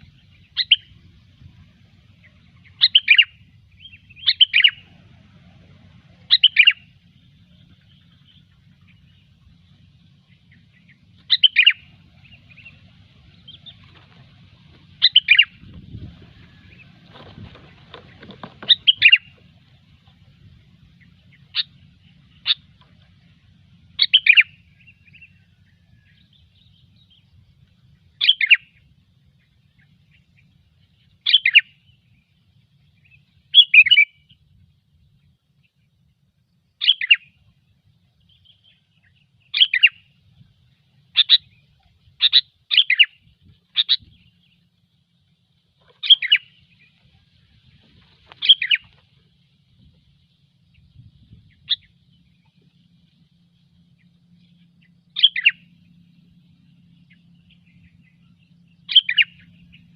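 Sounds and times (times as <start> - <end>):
bird chirping calls: 0.0 - 59.9.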